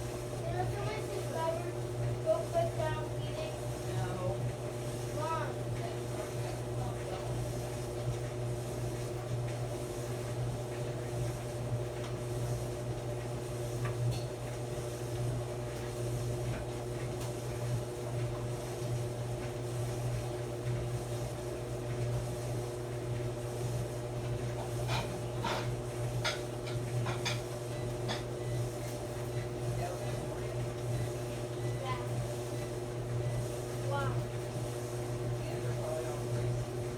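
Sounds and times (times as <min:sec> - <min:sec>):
clothes dryer humming: 0:00.0 - 0:36.9.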